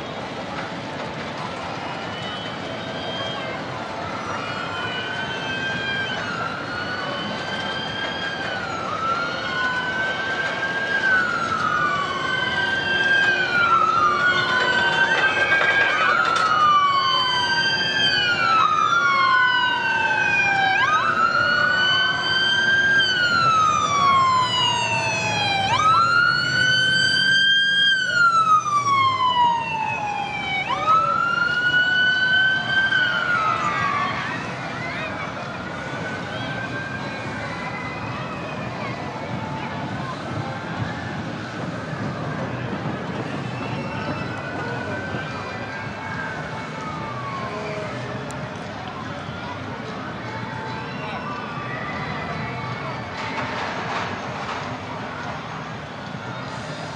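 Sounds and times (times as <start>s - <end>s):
emergency siren wailing: 0.0s - 56.9s
second siren: 1.7s - 54.1s.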